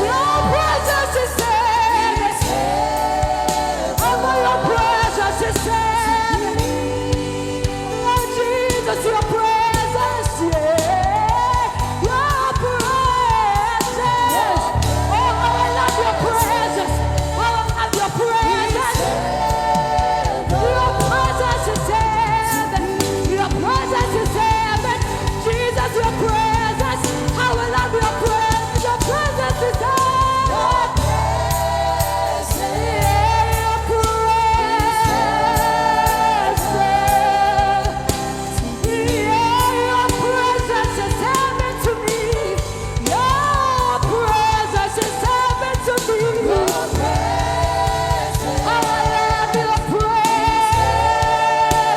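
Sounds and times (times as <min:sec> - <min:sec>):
gospel choir singing: 0:00.0 - 0:51.9
steady bass accompaniment: 0:00.0 - 0:51.9.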